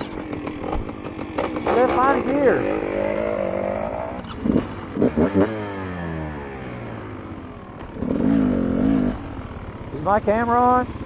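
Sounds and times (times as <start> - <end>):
dirt bike engine: 0.0 - 11.0.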